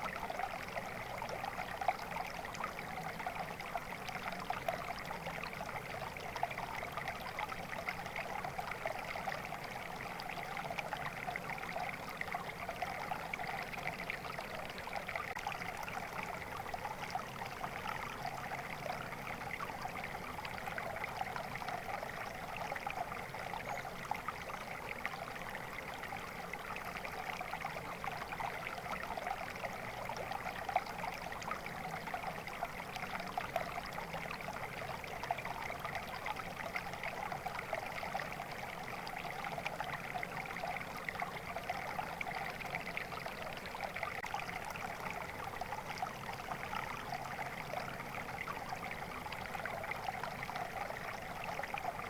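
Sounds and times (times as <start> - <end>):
shallow stream trickling: 0.0 - 52.0.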